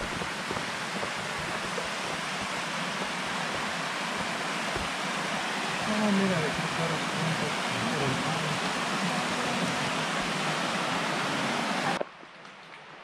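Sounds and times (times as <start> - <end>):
waterfall and creek rushing: 0.0 - 12.0.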